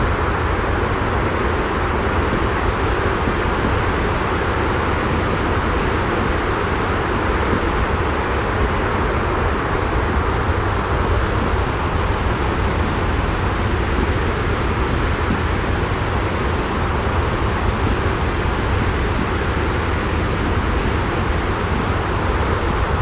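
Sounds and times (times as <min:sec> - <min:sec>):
white noise with deep rumble: 0:00.0 - 0:23.0.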